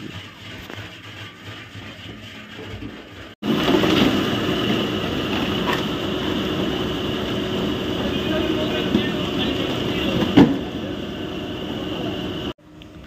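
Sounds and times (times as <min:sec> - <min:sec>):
loud mechanical rattling and rumbling: 0:00.0 - 0:12.6.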